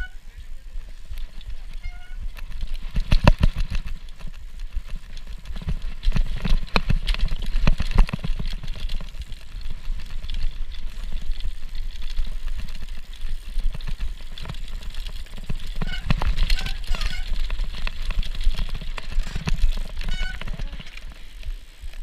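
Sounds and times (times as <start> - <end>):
mountain bike rattling: 0.0 - 22.0.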